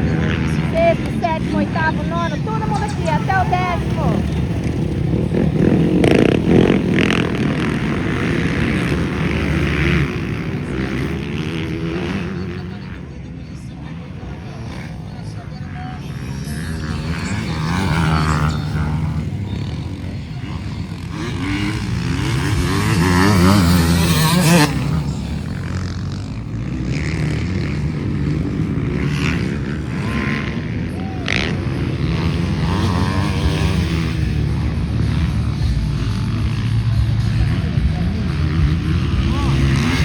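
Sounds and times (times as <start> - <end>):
motorcycles racing past: 0.0 - 40.0.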